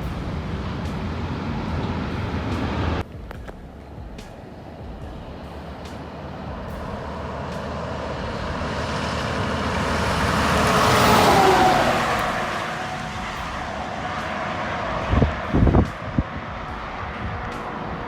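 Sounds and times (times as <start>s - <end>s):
vehicle driving past: 0.0s - 18.0s.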